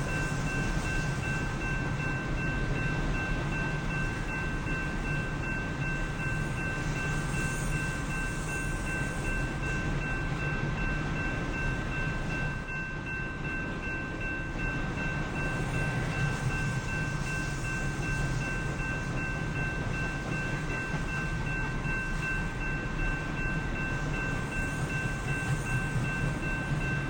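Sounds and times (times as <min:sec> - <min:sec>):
high ringing tones: 0:00.0 - 0:27.0
train rumbling past: 0:00.0 - 0:27.0.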